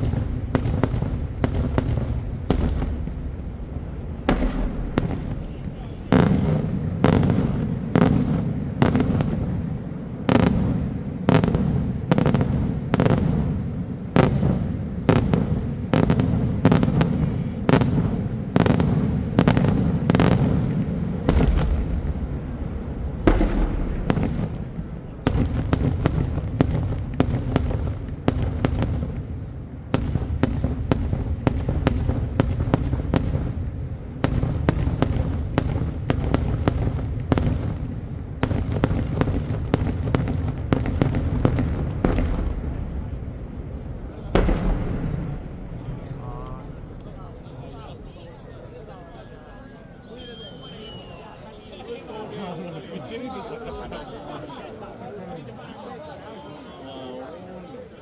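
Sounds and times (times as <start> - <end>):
fireworks bangs: 0.0 - 52.2.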